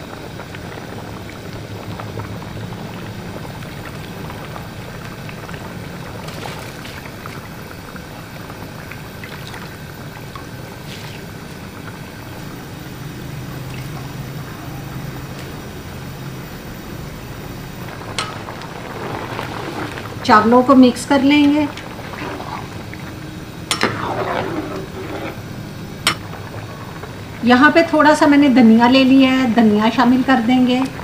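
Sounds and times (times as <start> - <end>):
stock boiling in a pot: 0.0 - 31.0.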